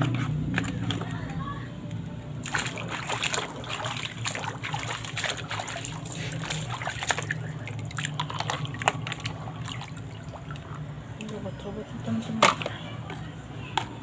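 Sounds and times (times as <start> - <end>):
water splashing and trickling: 2.4 - 14.0.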